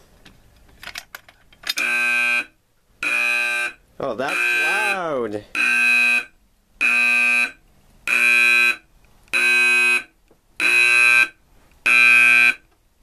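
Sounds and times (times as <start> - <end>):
fire alarm horn blasts: 1.7 - 12.7.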